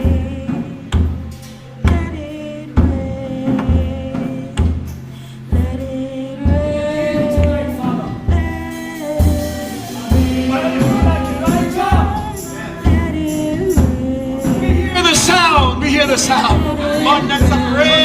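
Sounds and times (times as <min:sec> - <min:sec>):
sustained keyboard chords: 0:00.0 - 0:18.0
voices singing: 0:00.0 - 0:18.0
bass drum beat: 0:02.8 - 0:18.0.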